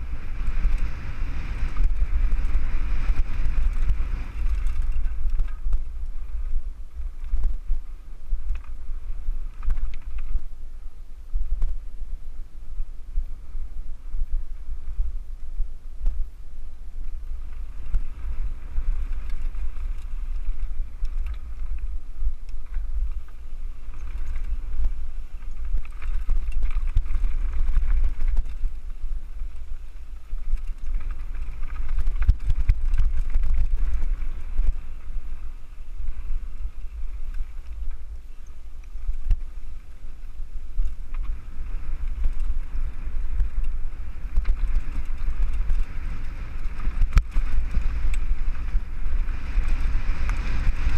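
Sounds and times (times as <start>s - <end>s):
bike clicks and rattles: 0.0s - 50.9s
wind buffeting microphone: 0.0s - 50.9s.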